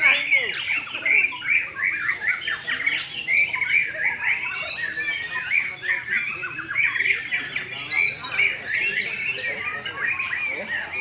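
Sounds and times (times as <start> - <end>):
birds singing whistles and chatter: 0.0 - 11.0.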